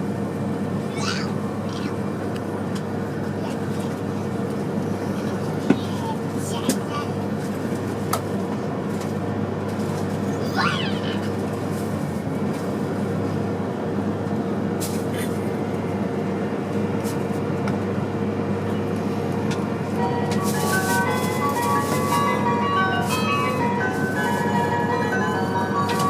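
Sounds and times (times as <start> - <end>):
train cabin hum: 0.0 - 26.0.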